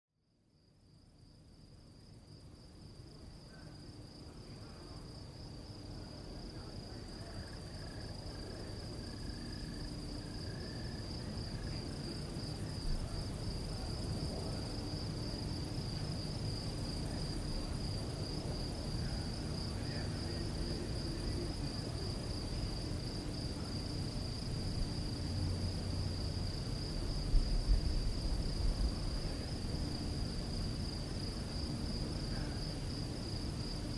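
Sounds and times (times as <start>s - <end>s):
crickets chirping: 0.3s - 33.9s.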